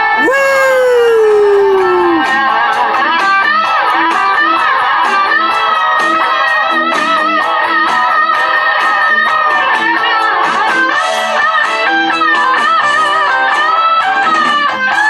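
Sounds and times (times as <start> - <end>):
drums: 0.0 - 15.0
electric guitar lead: 0.0 - 15.0.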